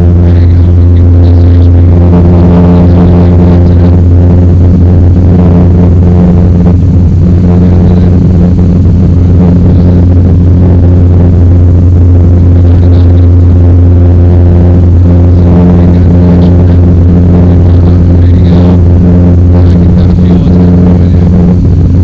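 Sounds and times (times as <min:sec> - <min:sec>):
light aircraft engine droning: 0:00.0 - 0:22.0.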